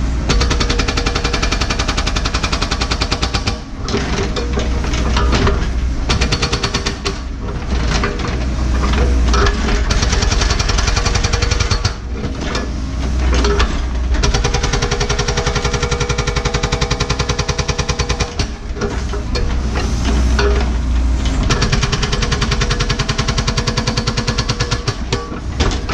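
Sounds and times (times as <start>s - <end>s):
diesel engine running: 0.0s - 25.9s
hydraulic hammer pounding rock: 0.0s - 25.9s.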